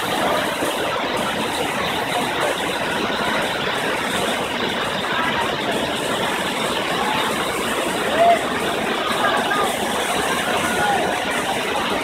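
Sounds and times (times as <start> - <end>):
large waterfall rushing: 0.0 - 12.0.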